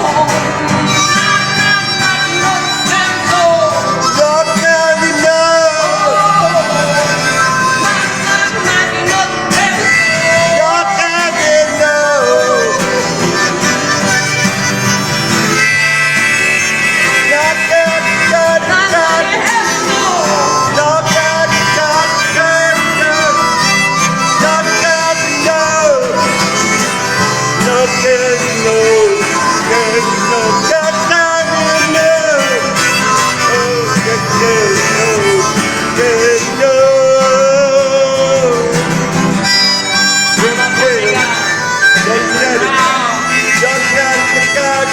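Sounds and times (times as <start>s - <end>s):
sliding lead melody: 0.0s - 44.9s.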